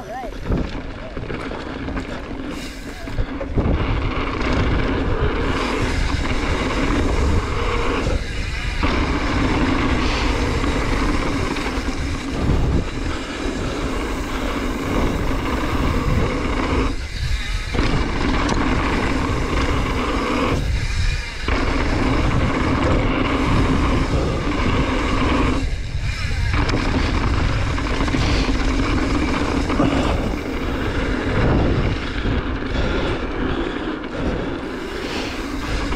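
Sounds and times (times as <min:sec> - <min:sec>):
bike tyre rumble on trail: 0:00.0 - 0:35.9
wind buffeting microphone: 0:00.0 - 0:35.9.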